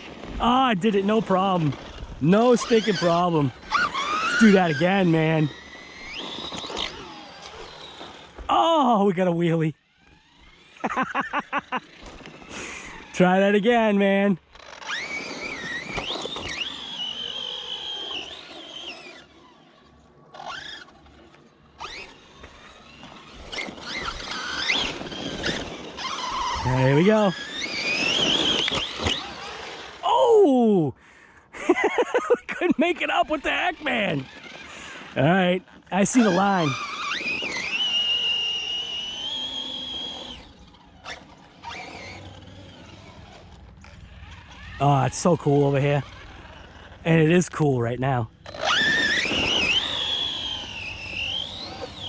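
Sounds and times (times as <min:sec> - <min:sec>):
rc truck electric motor whining: 0:00.0 - 0:30.2, 0:31.6 - 0:52.0.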